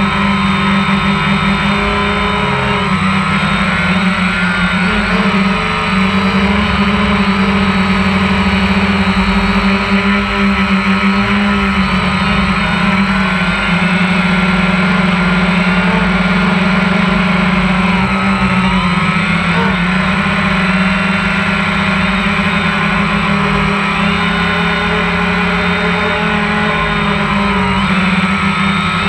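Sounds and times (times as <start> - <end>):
drone propellers buzzing: 0.0 - 29.0.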